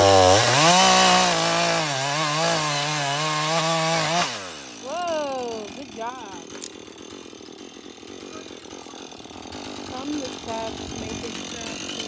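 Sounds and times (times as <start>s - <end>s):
chainsaw running at high revs: 0.0s - 12.0s.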